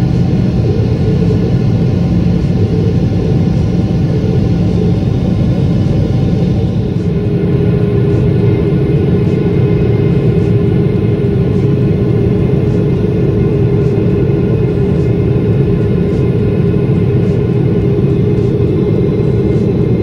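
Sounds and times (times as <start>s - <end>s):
jet engine roar: 0.0s - 20.0s
low hum: 0.0s - 20.0s.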